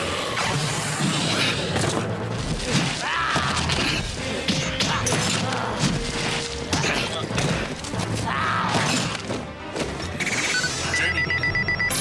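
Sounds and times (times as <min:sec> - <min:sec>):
action background music: 0:00.0 - 0:12.0.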